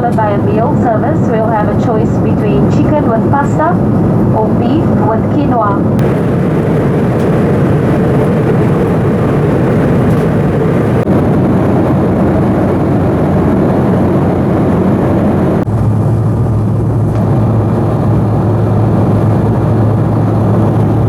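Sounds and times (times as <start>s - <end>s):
jet engines rumbling in cabin: 0.0s - 21.0s
low steady hum: 0.0s - 21.0s.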